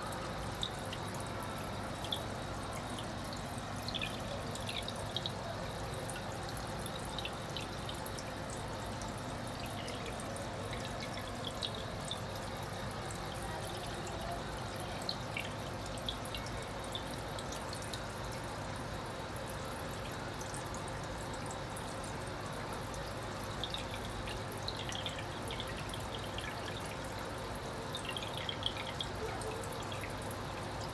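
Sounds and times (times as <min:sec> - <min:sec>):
light water drips: 0:00.0 - 0:30.9
running water: 0:00.0 - 0:30.9.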